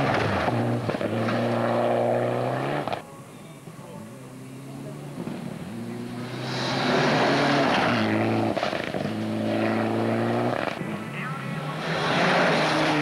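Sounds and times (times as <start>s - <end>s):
rally car engine at high revs: 0.0s - 3.0s, 4.2s - 13.0s.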